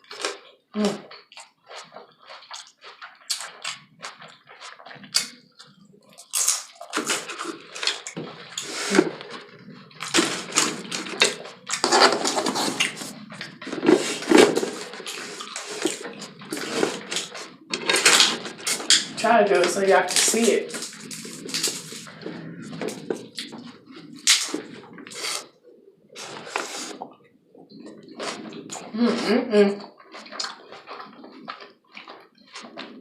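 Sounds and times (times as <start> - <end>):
crunching and chewing food: 0.0 - 33.0.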